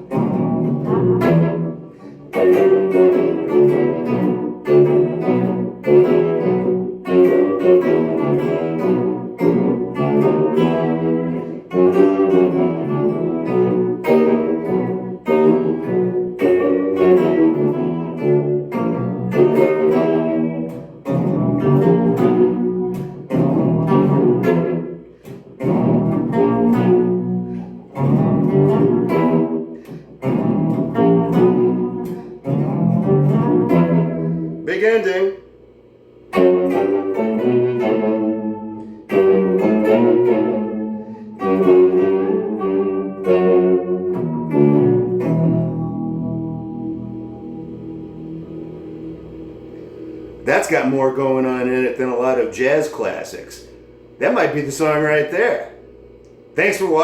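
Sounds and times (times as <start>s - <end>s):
low pitch-shifted guitar: 0.0s - 57.0s.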